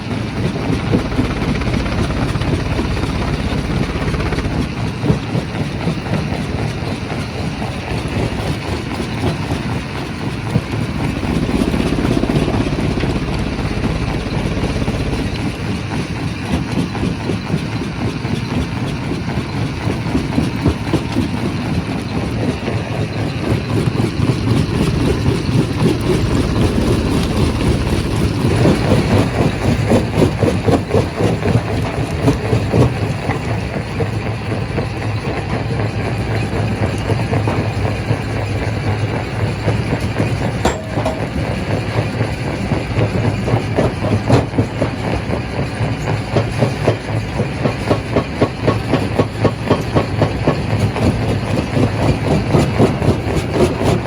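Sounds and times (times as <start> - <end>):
rock crushing machinery grinding: 0.0 - 35.3, 36.2 - 54.0.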